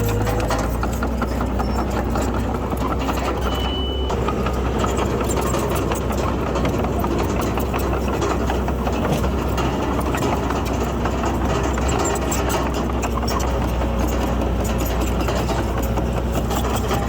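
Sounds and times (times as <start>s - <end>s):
bulldozer diesel engine running: 0.0s - 17.0s
dense engine clatter: 0.0s - 17.0s.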